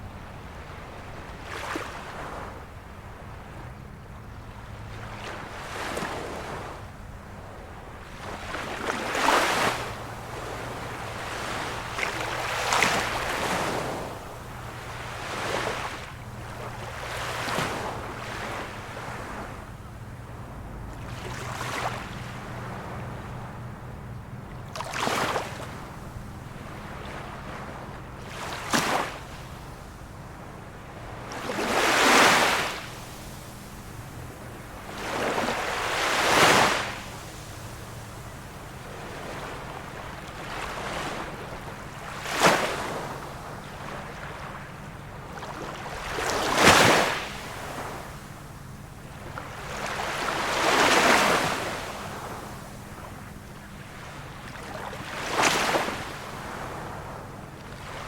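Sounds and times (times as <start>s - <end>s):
small waves washing on shore: 0.0s - 58.0s.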